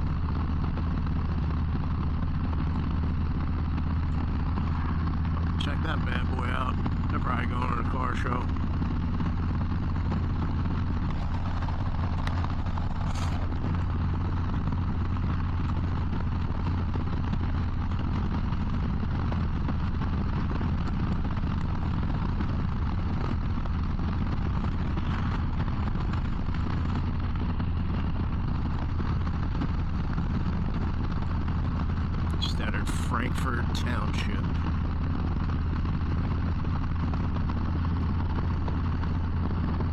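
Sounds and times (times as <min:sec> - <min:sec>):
motorcycle engine drone: 0:00.0 - 0:39.9
wind and road rush: 0:00.0 - 0:39.9.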